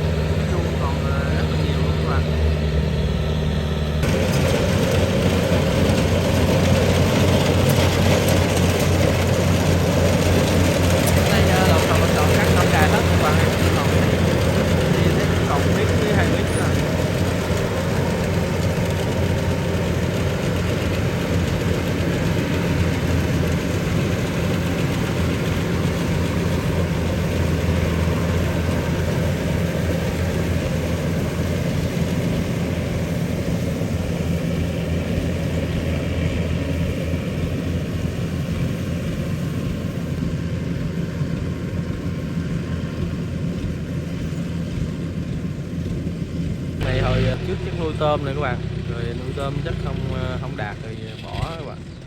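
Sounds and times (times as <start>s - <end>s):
diesel engine humming under load: 0.0s - 52.0s.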